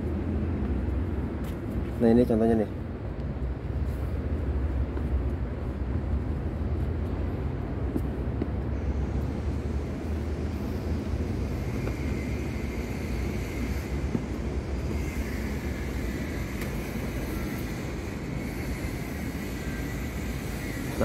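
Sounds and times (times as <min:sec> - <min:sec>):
construction site low rumble: 0:00.0 - 0:21.0
faint high whine: 0:00.0 - 0:21.0.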